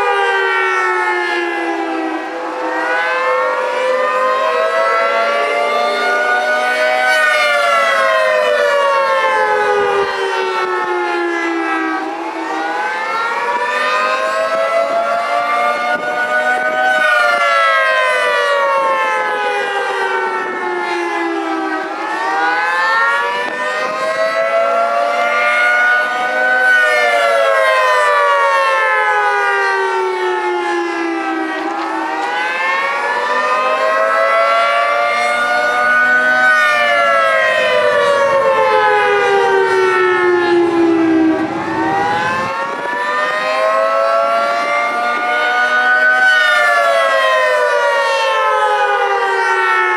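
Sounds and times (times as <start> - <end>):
three-tone warning siren wailing: 0.0 - 49.9.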